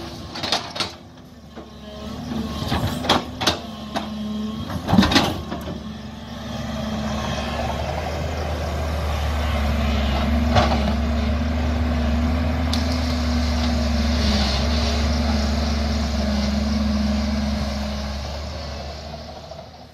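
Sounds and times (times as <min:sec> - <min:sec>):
excavator diesel engine and hydraulics: 0:00.0 - 0:19.9.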